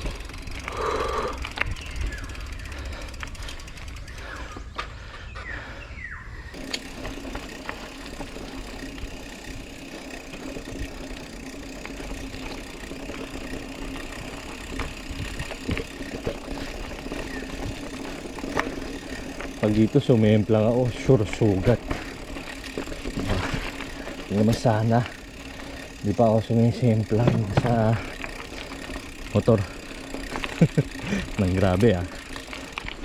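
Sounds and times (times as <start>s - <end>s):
bike frame rattling and clicking: 0.0s - 5.1s, 6.5s - 33.0s.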